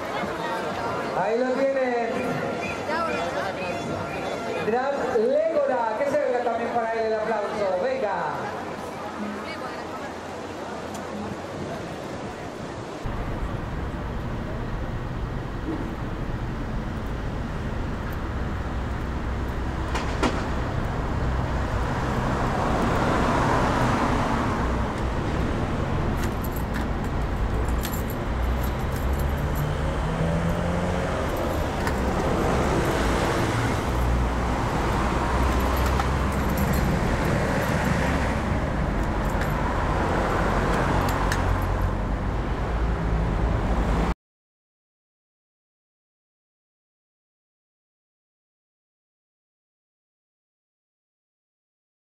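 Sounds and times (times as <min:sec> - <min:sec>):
low steady traffic rumble: 0:00.0 - 0:44.1
vehicles driving past: 0:00.0 - 0:44.2.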